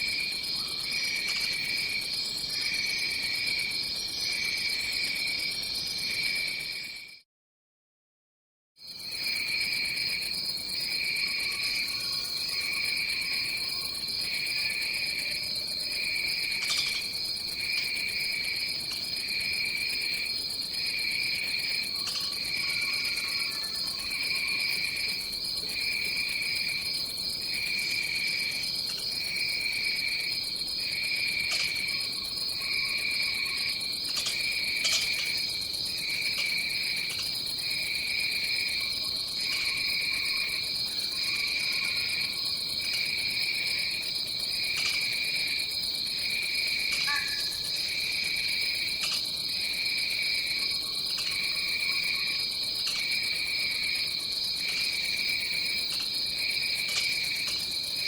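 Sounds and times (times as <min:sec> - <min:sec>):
insects buzzing high-pitched: 0:10.8 - 0:58.0
pulsing insect trill: 0:10.8 - 0:58.0.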